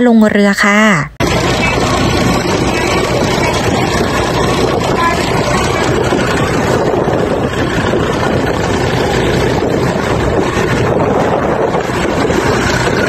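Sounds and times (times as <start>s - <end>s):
boat engine running: 1.2s - 13.0s
wind noise on microphone: 1.2s - 13.0s.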